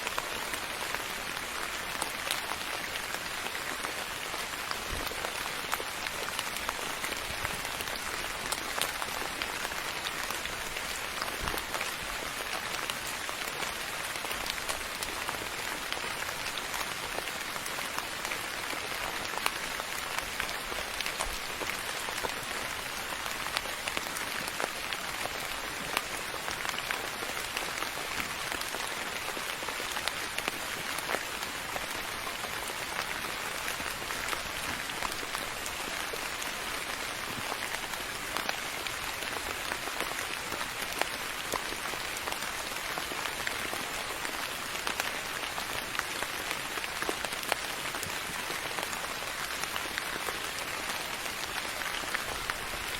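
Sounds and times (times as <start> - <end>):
soft rain falling: 0.0 - 52.9.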